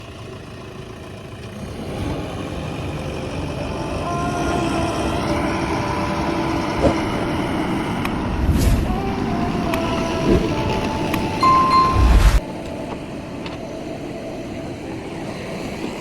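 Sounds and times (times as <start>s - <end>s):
heavy diesel engine running: 0.0s - 16.0s
steady whine: 2.1s - 16.0s.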